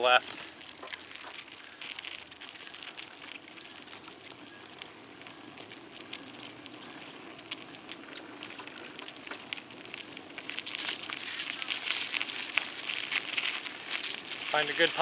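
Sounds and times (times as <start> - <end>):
bicycle tyres rumbling on trail: 0.0 - 15.0
small clicks and crackles: 0.0 - 15.0.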